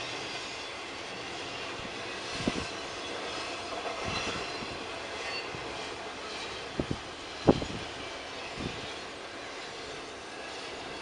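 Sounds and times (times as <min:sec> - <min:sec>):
train wheels rushing on rail: 0:00.0 - 0:11.0
train clunks: 0:01.7 - 0:11.0.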